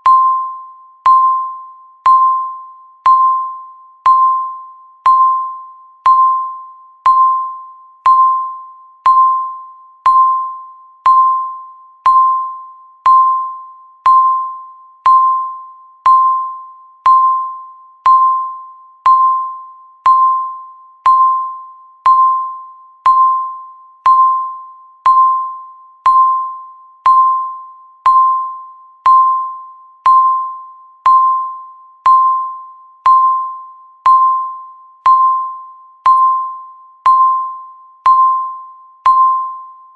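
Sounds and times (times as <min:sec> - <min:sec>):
countdown timer beeps: 0:00.0 - 0:39.9.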